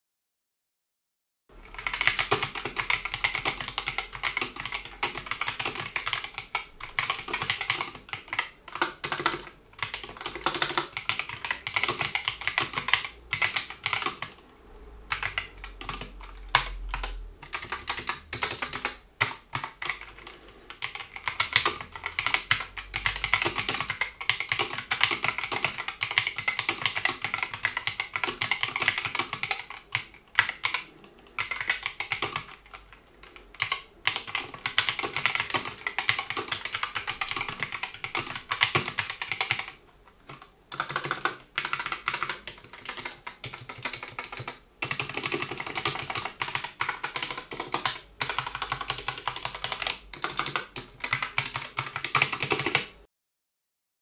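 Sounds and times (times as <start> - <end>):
fast mechanical keyboard typing: 1.6 - 14.4, 15.1 - 53.1.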